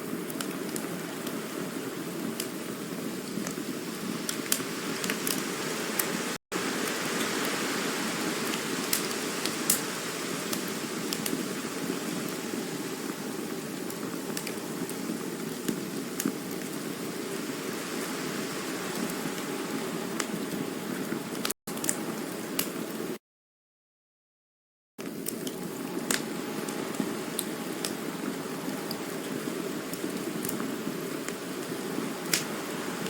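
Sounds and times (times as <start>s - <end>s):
burning wood crackling and popping: 0.0s - 23.2s, 25.0s - 33.0s
campfire flames hissing: 0.0s - 23.2s, 25.0s - 33.0s.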